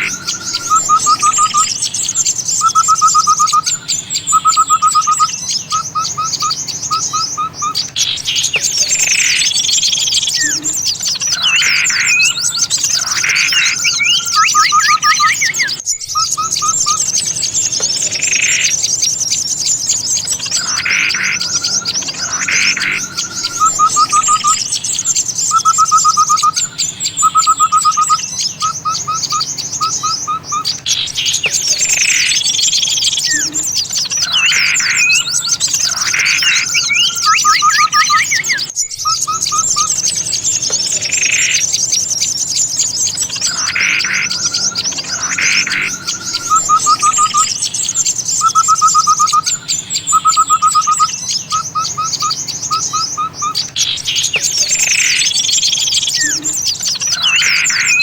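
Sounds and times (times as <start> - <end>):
high twittering bird chirps: 0.0 - 58.0
loud swooping bird calls: 0.0 - 58.0
rapid trilled bird notes: 0.0 - 58.0.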